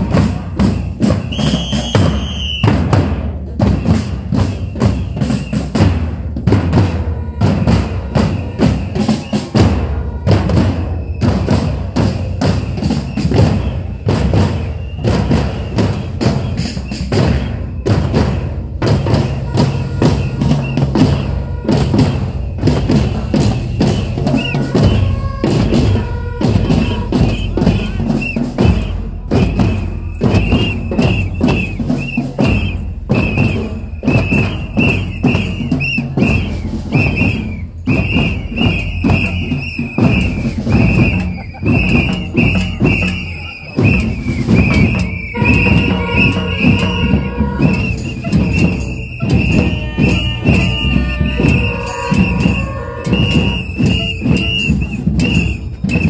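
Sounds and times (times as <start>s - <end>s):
marching drums playing: 0.0s - 56.0s.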